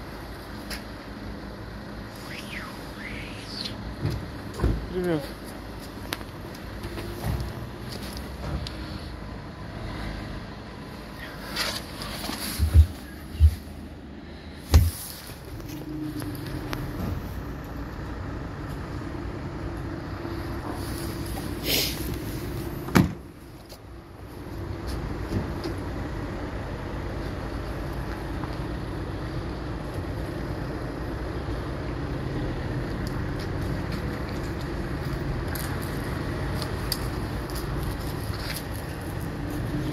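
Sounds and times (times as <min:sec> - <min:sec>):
outdoor background rumble: 0:00.0 - 0:39.9.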